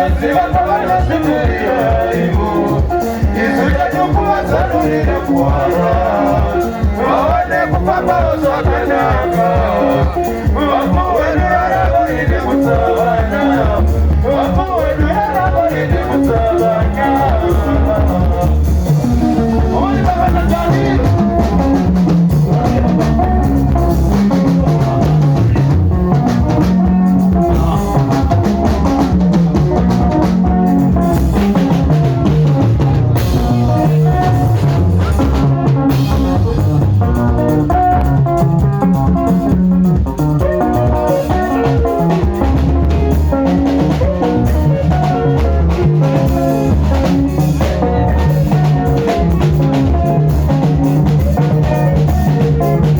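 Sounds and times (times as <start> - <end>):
bass guitar: 0.0 - 52.9
drum kit steady beat: 0.0 - 52.9
electric guitar lines: 0.0 - 52.9.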